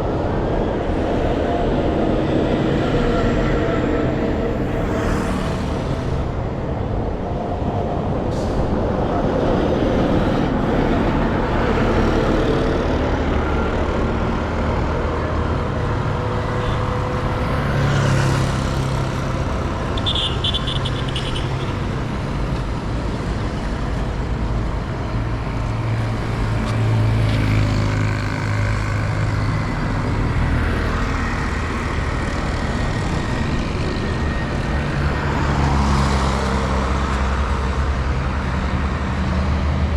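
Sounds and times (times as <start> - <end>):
road traffic noise: 0.0 - 39.9
vehicle engines passing: 0.0 - 39.9.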